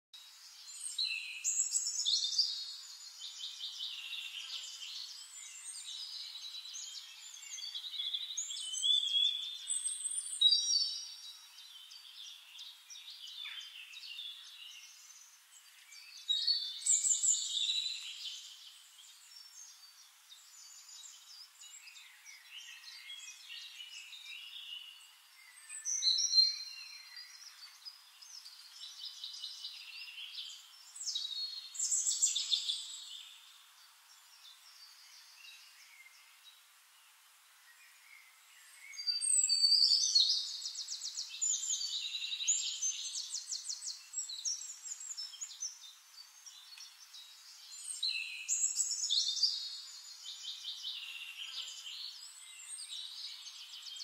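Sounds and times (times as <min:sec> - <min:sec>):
birds chirping and singing: 0:00.2 - 0:54.0.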